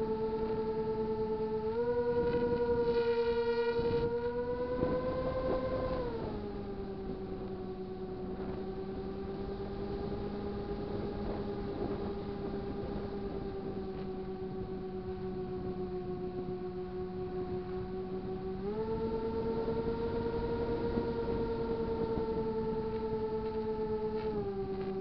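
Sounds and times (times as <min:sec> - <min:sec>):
model airplane motor whine: 0:00.0 - 0:25.0.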